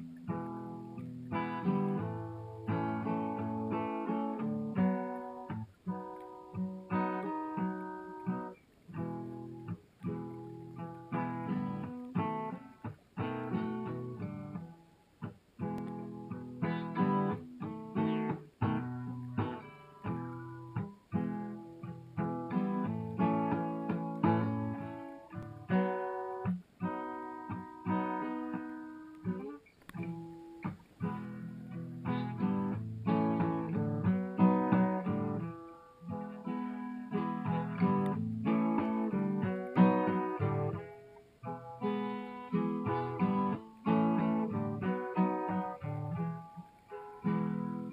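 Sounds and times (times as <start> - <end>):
acoustic guitar music: 0.0 - 47.9.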